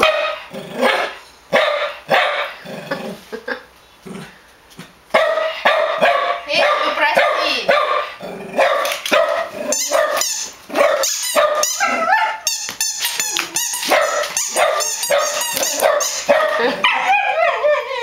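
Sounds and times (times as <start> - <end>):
dogs barking and yipping: 0.0 - 2.6, 5.1 - 18.0.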